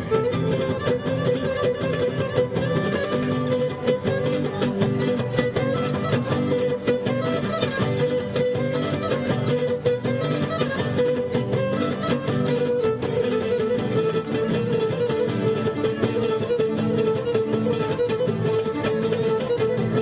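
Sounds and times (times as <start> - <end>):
plucked lute accompaniment: 0.0 - 20.0.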